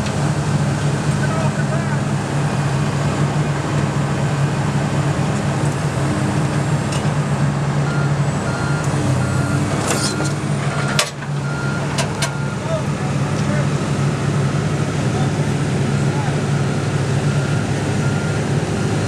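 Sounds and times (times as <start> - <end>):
diesel machinery idling: 0.0 - 19.0.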